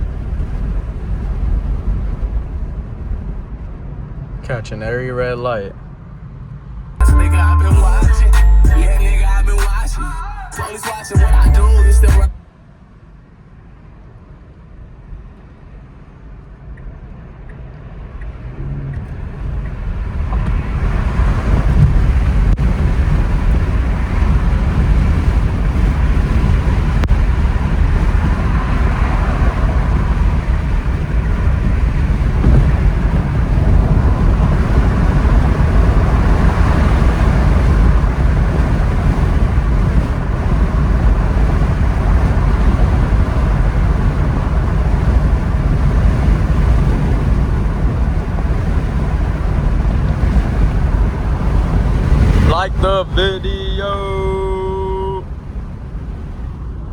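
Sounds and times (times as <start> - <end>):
wind rushing through car windows: 0.0 - 7.0, 12.5 - 56.9
tyre and road noise: 5.8 - 56.9.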